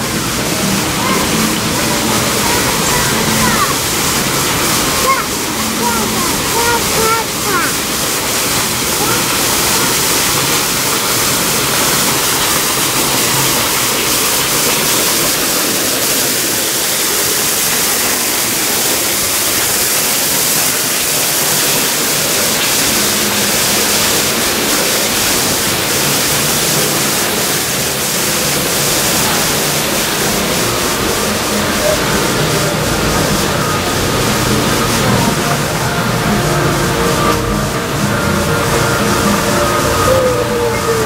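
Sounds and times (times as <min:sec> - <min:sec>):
waterfall rushing and splashing: 0:00.0 - 0:41.0.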